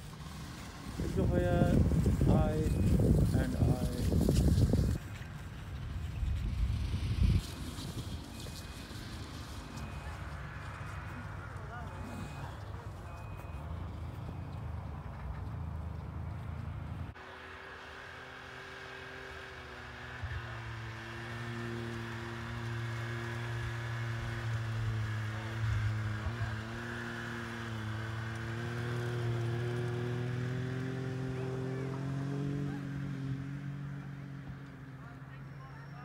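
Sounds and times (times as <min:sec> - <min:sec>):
snowmobile engine running: 0:00.0 - 0:36.0.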